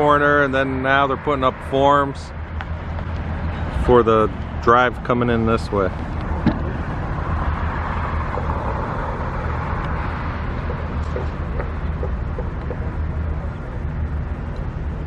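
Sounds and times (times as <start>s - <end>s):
road traffic rumble: 0.0s - 15.0s
vehicle passing: 0.5s - 15.0s.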